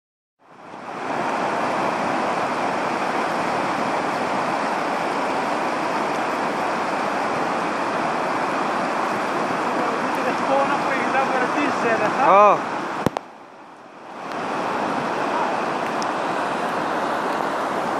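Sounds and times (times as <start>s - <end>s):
river rushing: 0.4s - 17.9s.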